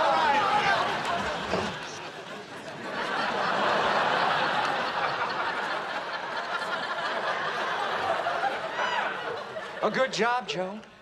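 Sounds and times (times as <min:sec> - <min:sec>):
studio audience laughing: 0:00.9 - 0:10.0.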